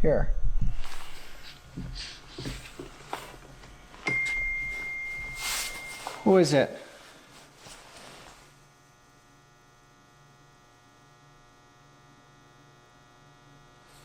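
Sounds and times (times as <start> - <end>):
faint buzzy electrical hum: 0.0 - 14.0.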